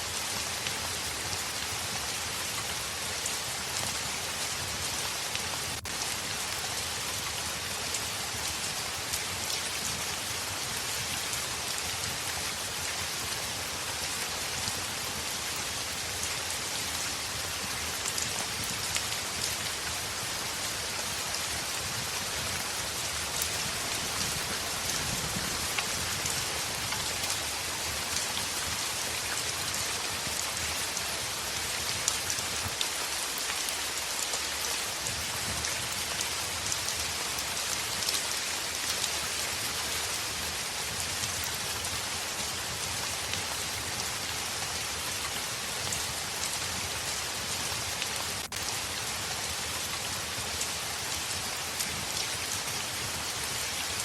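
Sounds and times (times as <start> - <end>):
heavy rain falling: 0.0 - 54.0
raindrops ticking on a surface: 5.1 - 54.0.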